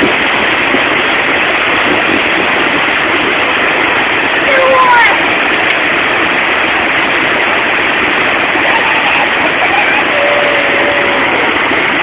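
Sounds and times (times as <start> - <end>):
water rushing over weir: 0.0 - 12.0.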